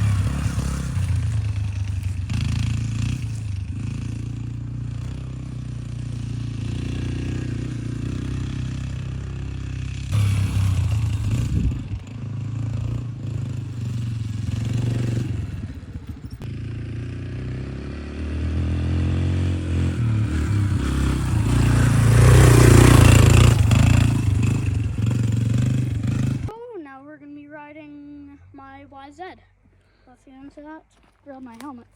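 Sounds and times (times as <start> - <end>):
dirt bike engine revving: 0.0 - 26.5.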